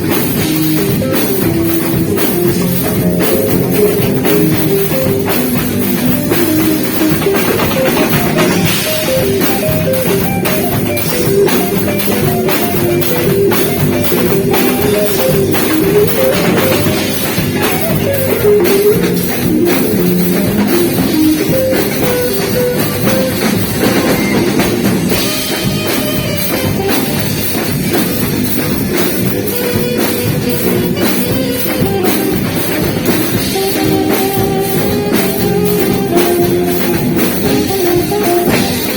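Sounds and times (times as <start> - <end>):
drum kit beat: 0.0 - 38.9
live band playing: 0.0 - 38.9
saxophone melody: 0.0 - 38.9.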